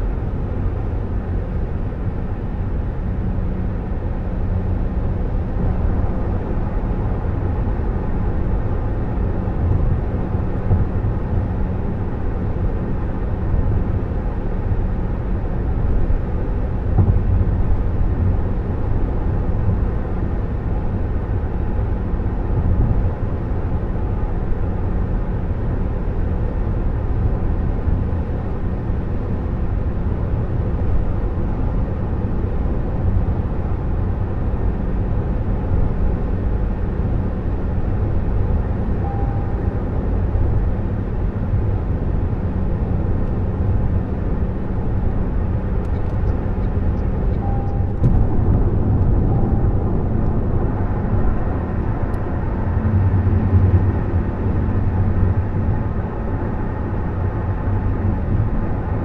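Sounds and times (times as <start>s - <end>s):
car low rumble: 0.0s - 59.0s
road and tyre noise: 0.0s - 59.0s.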